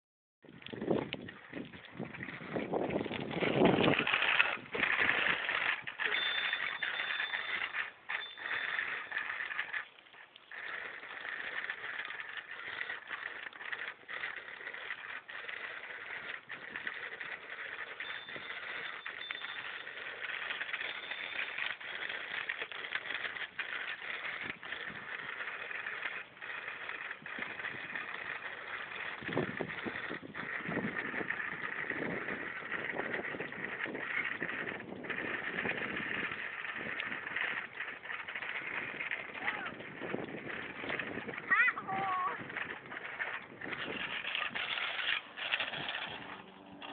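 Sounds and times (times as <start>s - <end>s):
bicycle rattling over asphalt: 0.4s - 46.9s
small clicks: 0.6s - 46.9s.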